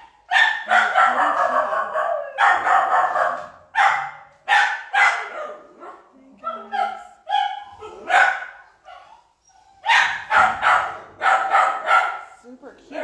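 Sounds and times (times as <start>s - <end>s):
dog barking: 0.0s - 9.1s, 9.8s - 12.4s.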